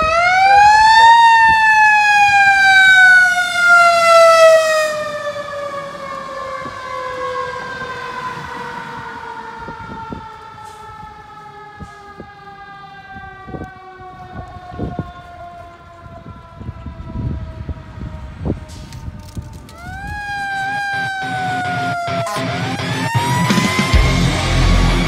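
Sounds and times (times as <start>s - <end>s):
fire engine siren wail: 0.0s - 25.0s.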